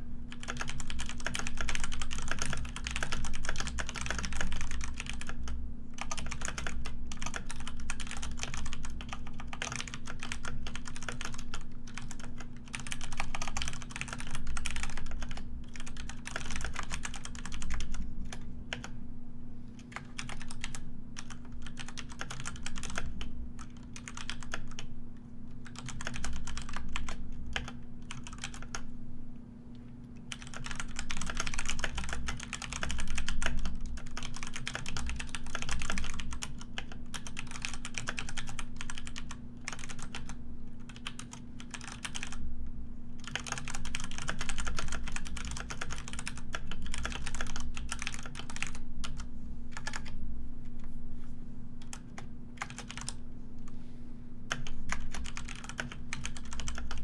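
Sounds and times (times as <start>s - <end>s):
steady low hum: 0.0s - 57.0s
computer keyboard typing: 0.3s - 19.0s, 19.8s - 24.9s, 25.6s - 28.9s, 30.2s - 42.4s, 43.2s - 50.2s, 51.8s - 53.2s, 54.5s - 57.0s.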